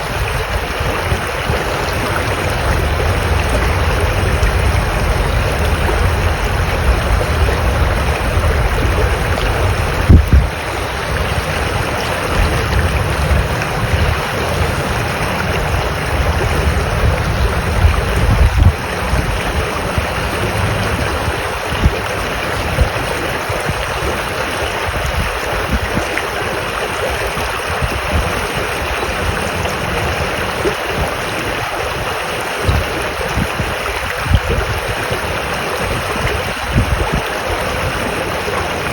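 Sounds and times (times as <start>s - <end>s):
stream water rushing: 0.0s - 38.9s
wind buffeting microphone: 0.0s - 38.9s.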